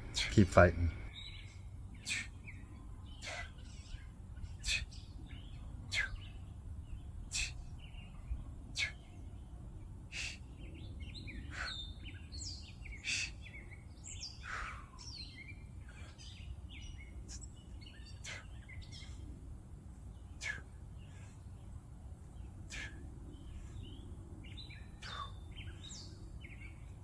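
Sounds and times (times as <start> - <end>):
birds singing and chirping: 0.0 - 19.3, 22.3 - 27.0
low outdoor air rumble: 0.0 - 27.0.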